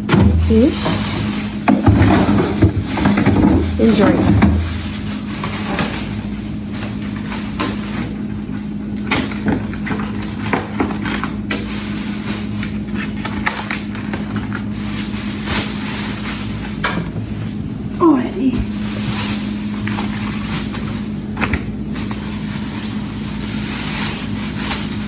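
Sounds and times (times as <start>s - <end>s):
packages rustling and knocking: 0.0s - 17.4s, 18.6s - 25.0s
steady low hum: 0.0s - 25.0s.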